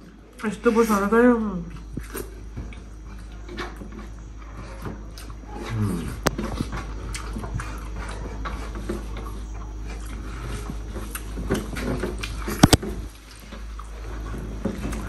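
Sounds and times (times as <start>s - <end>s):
chewing: 1.6s - 15.0s.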